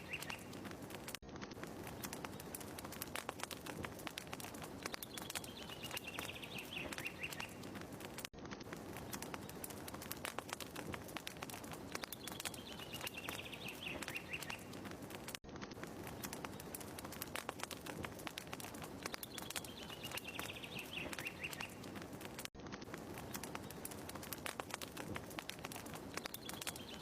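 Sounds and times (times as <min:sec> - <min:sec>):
fire crackling: 0:00.0 - 0:27.0.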